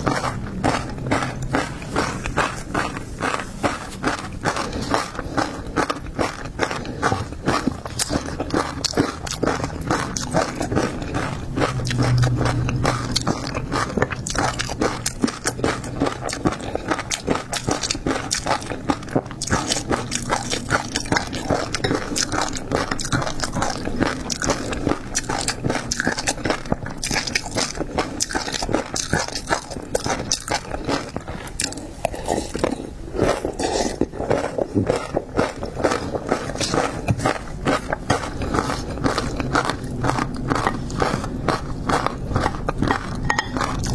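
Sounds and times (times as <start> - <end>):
biting and chewing seafood: 0.0 - 43.9.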